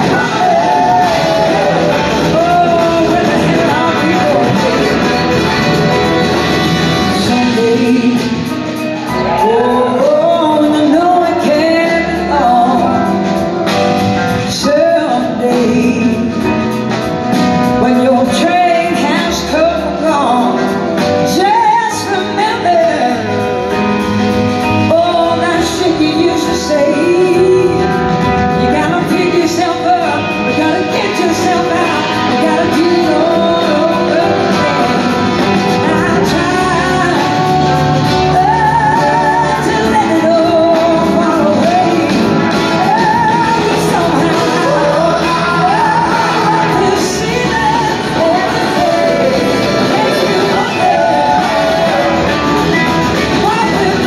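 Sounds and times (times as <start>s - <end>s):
live blues-rock band: 0.0s - 54.0s
woman singing: 0.0s - 54.0s.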